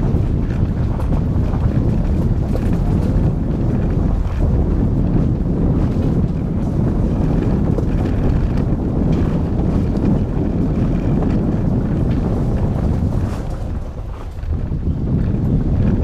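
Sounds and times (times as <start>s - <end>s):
car engine and tyres on gravel: 0.0s - 16.0s
wind buffeting microphone: 0.0s - 16.0s.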